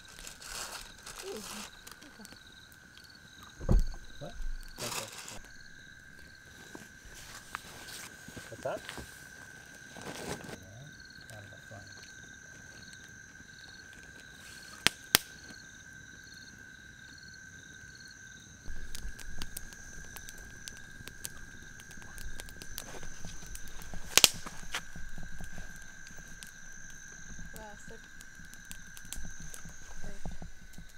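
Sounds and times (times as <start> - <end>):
campfire crackling and popping: 0.0 - 30.9
night insects trilling: 0.0 - 30.9
pulsing insect call: 0.0 - 30.9.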